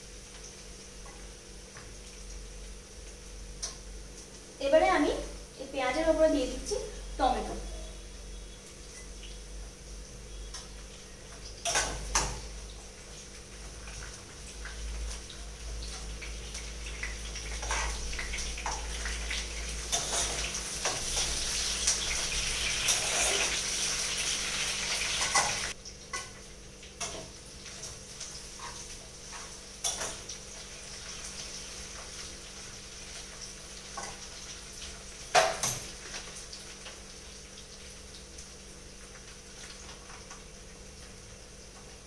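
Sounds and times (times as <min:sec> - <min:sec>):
onion and tomato sizzling in oil: 0:00.0 - 0:42.0.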